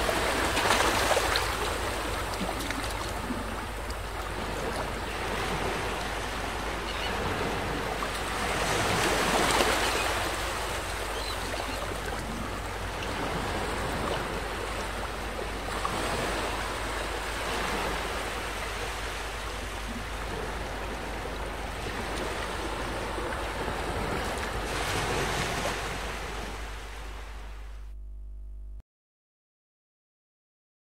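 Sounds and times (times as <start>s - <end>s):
waves washing on beach: 0.0s - 27.4s.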